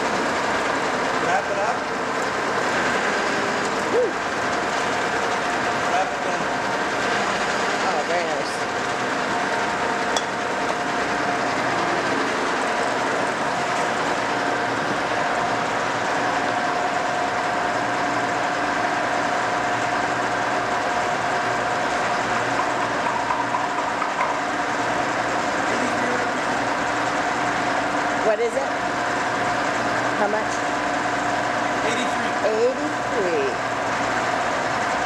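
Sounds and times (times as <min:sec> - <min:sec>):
milling machine whirring: 0:00.0 - 0:35.0.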